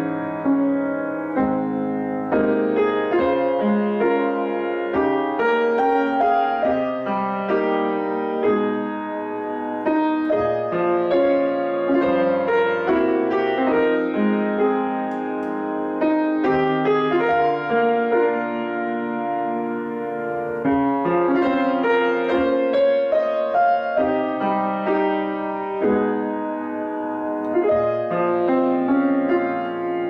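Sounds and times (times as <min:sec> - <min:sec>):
solo piano melody: 0:00.0 - 0:30.0.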